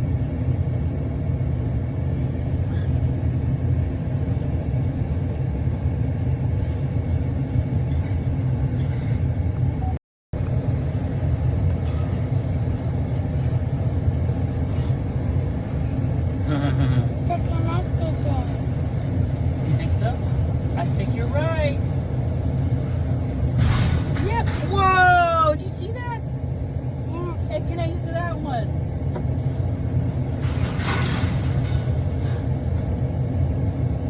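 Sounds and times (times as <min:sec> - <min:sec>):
low engine rumble: 0:00.0 - 0:34.0.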